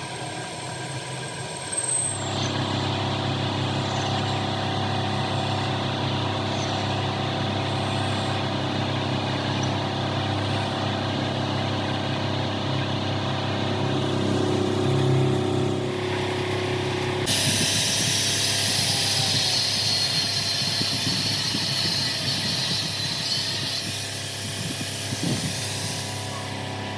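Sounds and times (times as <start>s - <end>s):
machine motor humming: 2.3s - 26.9s.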